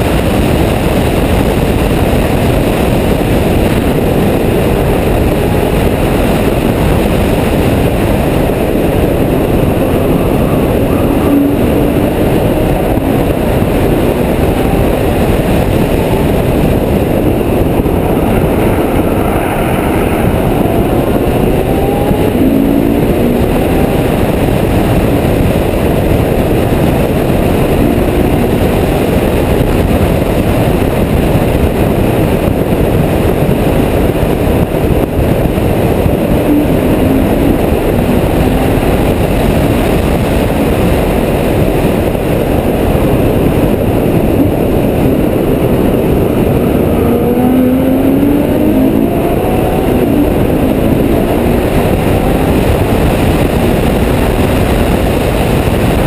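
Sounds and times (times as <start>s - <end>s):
car engine running at speed: 0.0s - 56.0s
wind rush: 0.0s - 56.0s.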